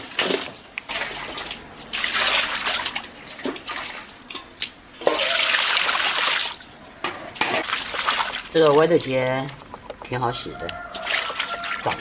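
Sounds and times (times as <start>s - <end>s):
water splashing and running: 0.0s - 9.6s, 10.9s - 12.0s.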